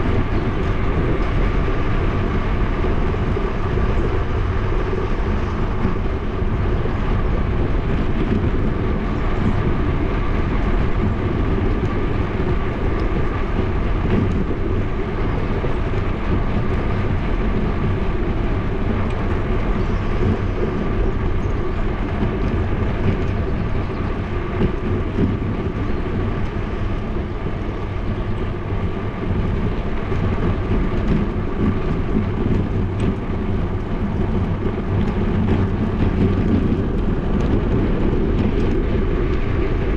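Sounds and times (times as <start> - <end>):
tyre noise on asphalt: 0.0 - 39.9
wind rushing over microphone: 0.0 - 39.9.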